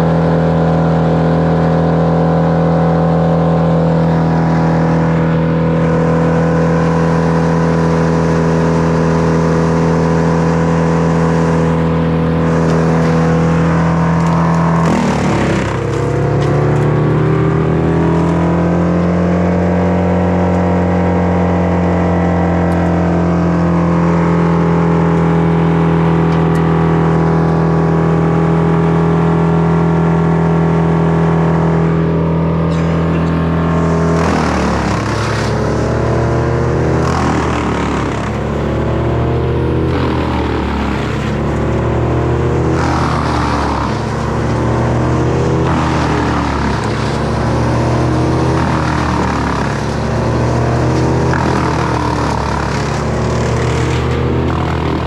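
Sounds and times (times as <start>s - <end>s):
chainsaw running at high revs: 0.0s - 55.0s.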